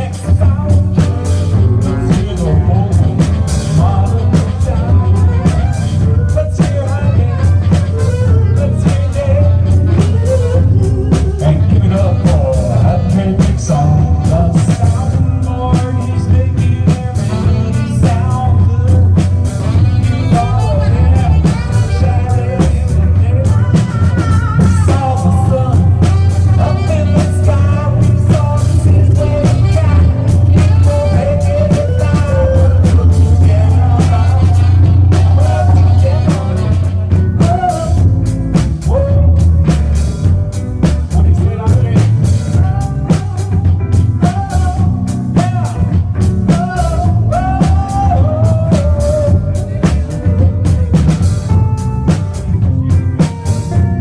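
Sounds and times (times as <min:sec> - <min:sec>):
person singing: 0:00.0 - 0:40.2, 0:40.8 - 0:54.0
drum kit: 0:00.0 - 0:54.0
electric guitar: 0:00.0 - 0:54.0
heavy bass line: 0:00.0 - 0:54.0.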